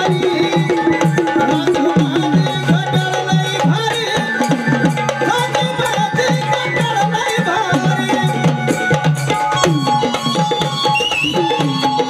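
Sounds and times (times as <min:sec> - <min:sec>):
hand drum rhythm: 0:00.0 - 0:12.0.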